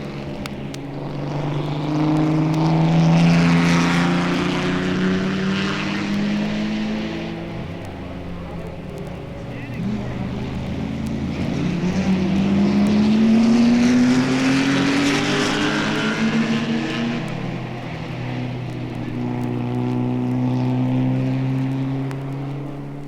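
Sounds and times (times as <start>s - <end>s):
racing car accelerating: 0.0s - 23.0s
racing car engines running: 0.0s - 23.0s.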